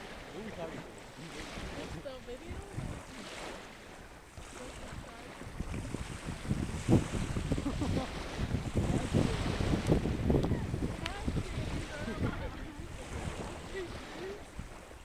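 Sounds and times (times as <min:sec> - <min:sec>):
beach surf: 0:00.0 - 0:15.0
wind buffeting microphone: 0:00.0 - 0:15.0.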